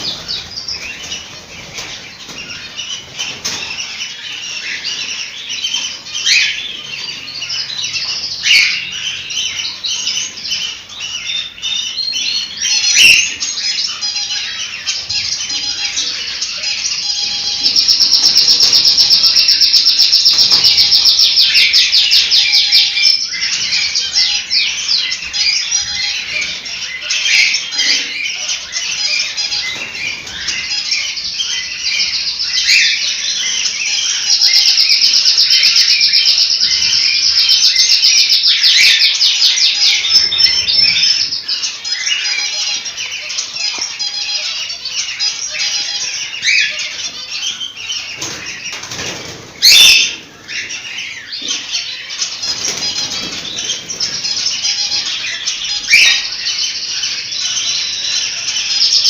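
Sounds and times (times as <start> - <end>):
cockatiels chirping and chattering: 0.0 - 59.0.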